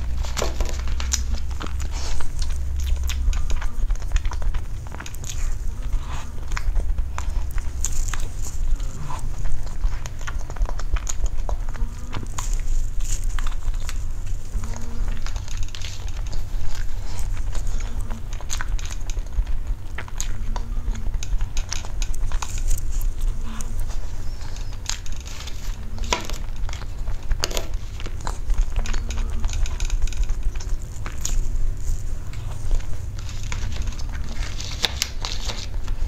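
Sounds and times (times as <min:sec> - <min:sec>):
fork clicking on teeth and tray: 0:00.0 - 0:36.0
steady low hum: 0:00.0 - 0:36.0
wet chewing and swallowing: 0:00.0 - 0:36.0.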